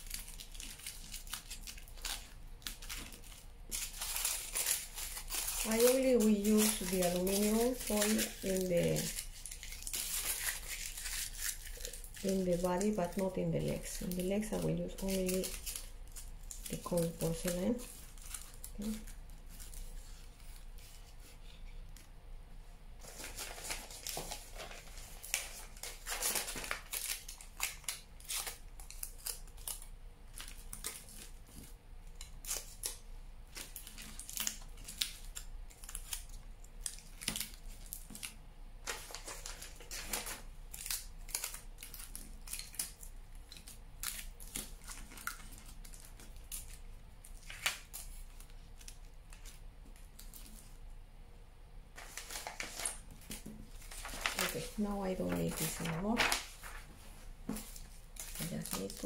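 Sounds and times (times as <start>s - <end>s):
aluminium foil crinkling: 0.0s - 21.6s, 23.0s - 50.8s, 52.0s - 59.0s.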